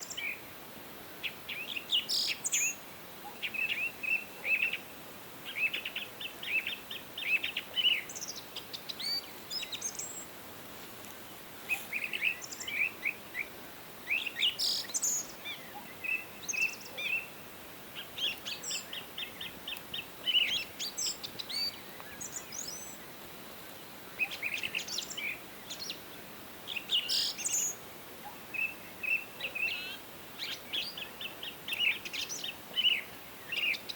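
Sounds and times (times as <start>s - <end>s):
faint steady hiss: 0.0s - 33.9s
songbirds chirping and twittering: 0.0s - 33.9s.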